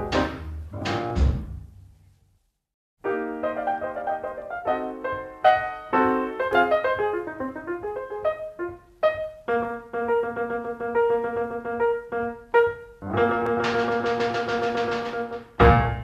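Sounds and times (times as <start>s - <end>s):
piano music: 0.0s - 1.6s, 3.0s - 16.0s.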